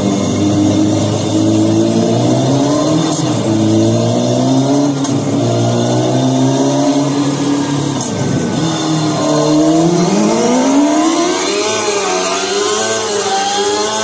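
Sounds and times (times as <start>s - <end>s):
motorcycle engine sound revving: 0.0s - 14.0s.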